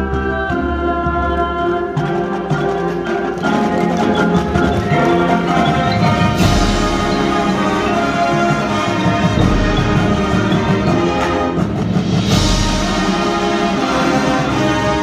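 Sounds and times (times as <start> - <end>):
marching band playing: 1.8 - 15.0.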